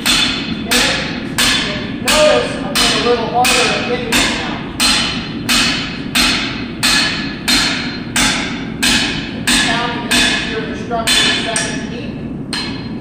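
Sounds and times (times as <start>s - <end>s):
hammer striking steel pipe: 0.0s - 11.8s, 12.5s - 13.0s.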